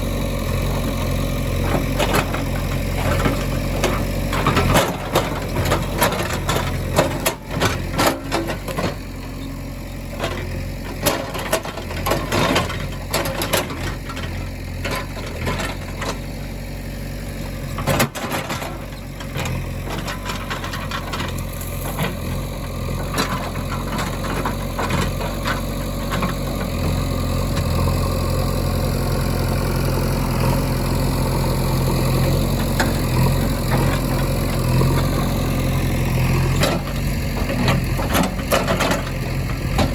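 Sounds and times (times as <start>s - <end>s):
diesel engine running: 0.0s - 39.9s
machinery clanks and rattles: 0.5s - 16.5s, 17.4s - 39.9s.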